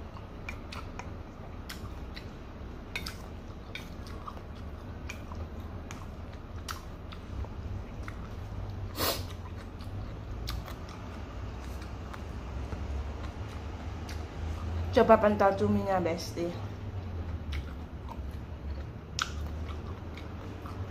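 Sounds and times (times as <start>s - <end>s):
person chewing noodles: 0.0s - 14.9s, 16.7s - 20.9s
steady low hum: 0.0s - 20.9s
wet mouth clicks and smacks: 0.1s - 14.8s, 17.0s - 20.9s.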